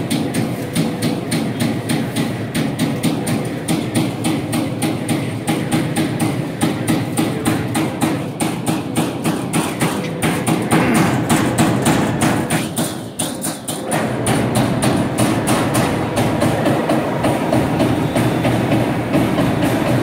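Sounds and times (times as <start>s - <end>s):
punch press punching sheet metal: 0.1s - 16.4s.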